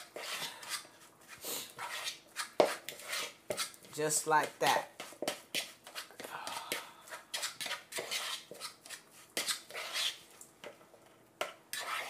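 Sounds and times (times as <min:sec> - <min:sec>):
fork scraping plastic bowl: 0:00.0 - 0:10.4, 0:11.7 - 0:12.0.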